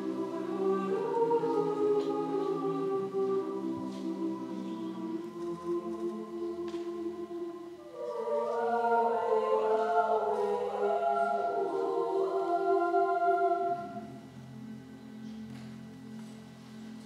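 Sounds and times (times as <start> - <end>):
choir singing in harmony: 0.0 - 15.3.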